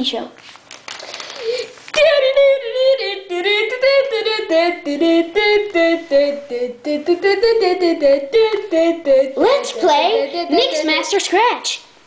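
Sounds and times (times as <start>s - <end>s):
child singing wordless tune: 1.9s - 12.0s.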